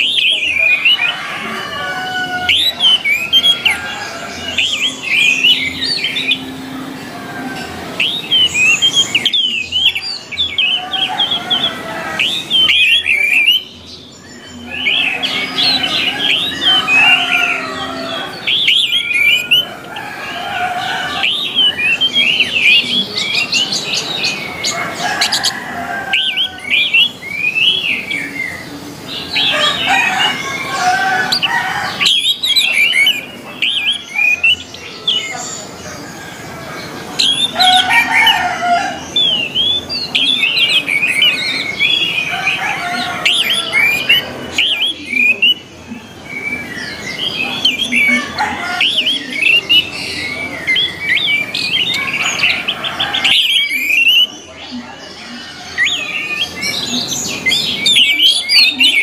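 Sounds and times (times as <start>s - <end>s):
thrush singing: 0.0s - 59.0s.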